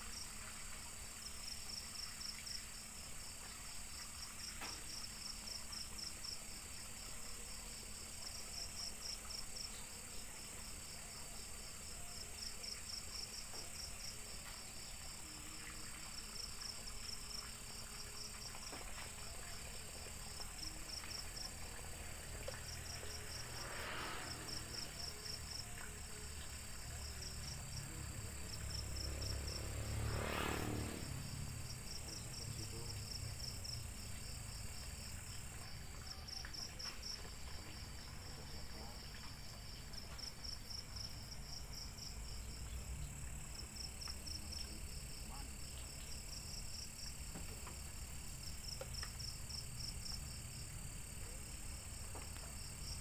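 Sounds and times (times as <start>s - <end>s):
crickets chirping: 0.0s - 53.0s
high insect drone: 0.0s - 53.0s.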